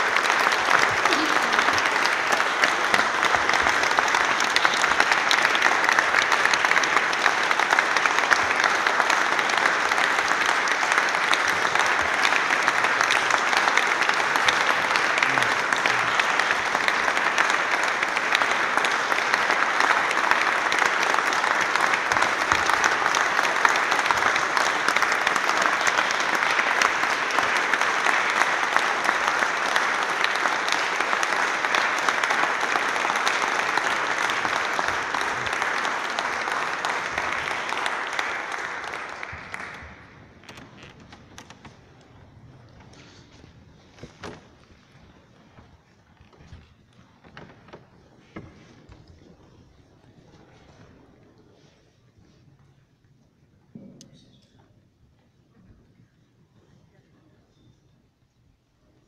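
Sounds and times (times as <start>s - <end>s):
audience clapping: 0.0s - 51.8s.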